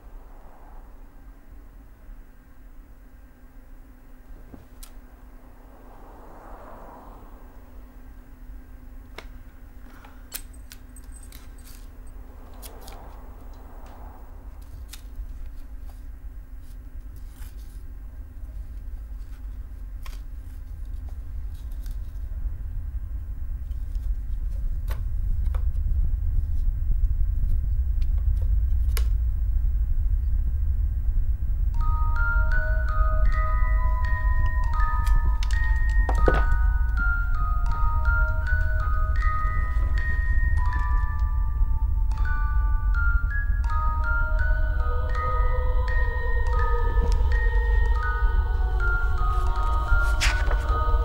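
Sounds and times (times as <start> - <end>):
low rumbling horror music drone: 0.0 - 51.0.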